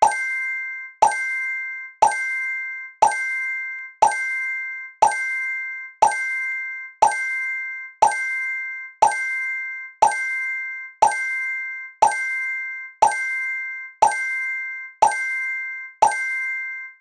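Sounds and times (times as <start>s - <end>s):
ringing chime: 0.0s - 17.0s.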